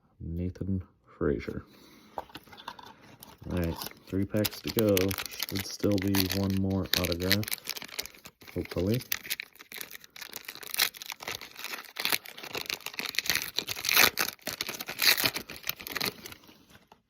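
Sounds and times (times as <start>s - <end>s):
foil wrapper tearing and crinkling: 3.2s - 17.0s.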